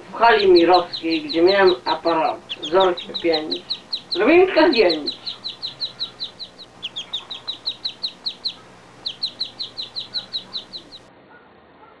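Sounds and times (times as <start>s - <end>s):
bird chirping: 0.0s - 11.1s.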